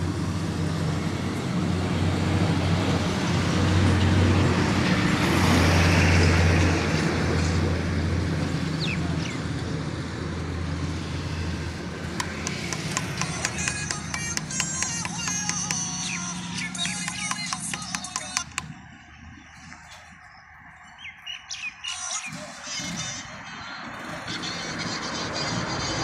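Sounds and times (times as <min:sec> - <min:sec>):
vehicle engine humming: 0:00.0 - 0:21.0
traffic noise: 0:00.0 - 0:26.0.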